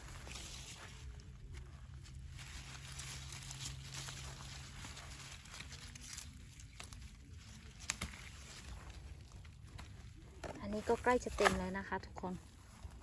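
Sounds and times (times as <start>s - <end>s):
leaves rustling and crinkling: 0.0s - 13.0s.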